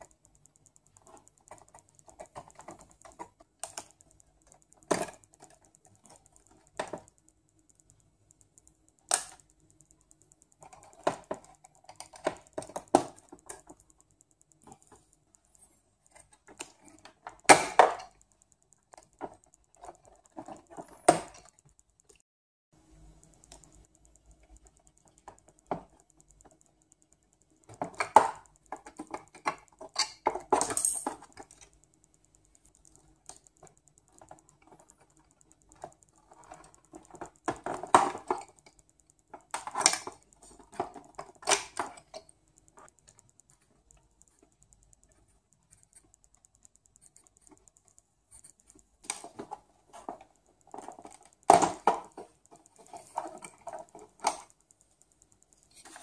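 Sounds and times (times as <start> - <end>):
plastic keyboard keys clacking: 0.0 - 22.2, 23.3 - 56.0.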